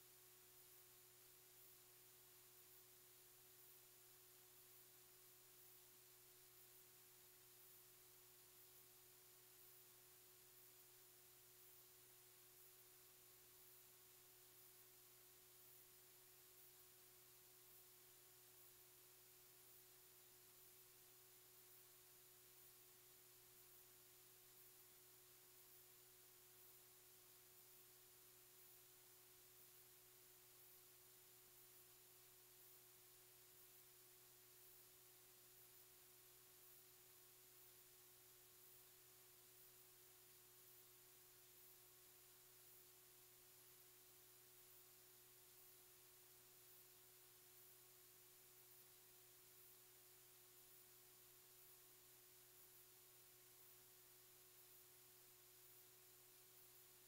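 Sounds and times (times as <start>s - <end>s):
faint steady hiss: 0.0s - 57.0s
low electrical hum: 0.0s - 57.0s.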